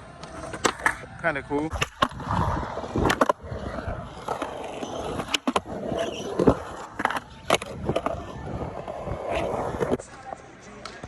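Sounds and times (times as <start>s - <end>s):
skateboard wheels rolling on concrete: 0.0s - 11.0s
skateboards clacking on ground: 0.1s - 11.0s.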